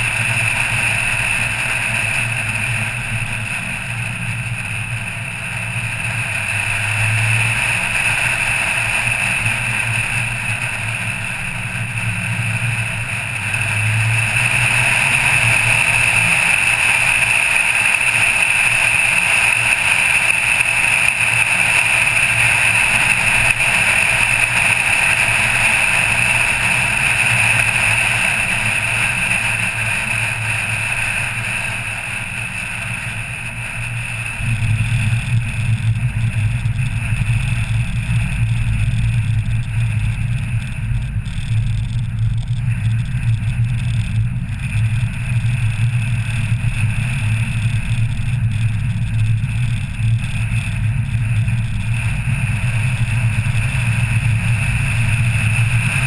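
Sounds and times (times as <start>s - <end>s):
car engine and road noise: 0.0s - 56.0s
tyres rumbling on cobblestones: 0.0s - 56.0s.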